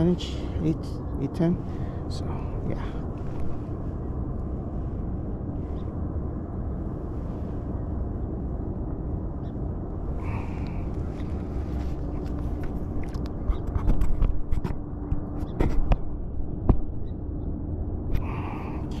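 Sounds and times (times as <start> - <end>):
faint steady hum: 0.0 - 19.0
low outdoor rumble: 0.0 - 19.0.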